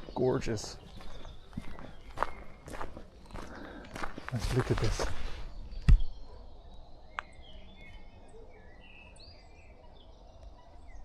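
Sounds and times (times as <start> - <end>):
songbirds whistling and chirping: 0.0 - 11.0.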